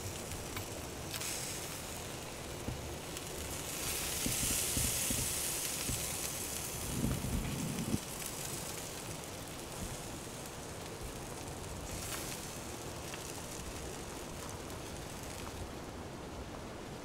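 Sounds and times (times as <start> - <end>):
meat sizzling: 0.0 - 15.7.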